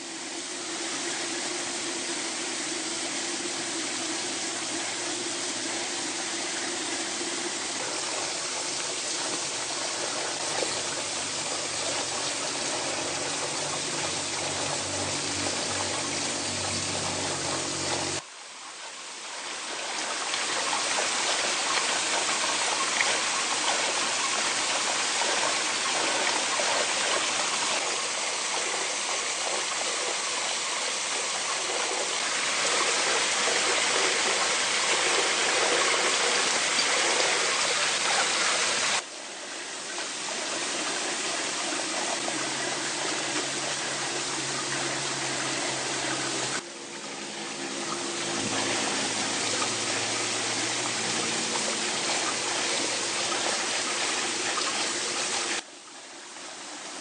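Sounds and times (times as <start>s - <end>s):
forest stream rushing: 0.0s - 57.0s.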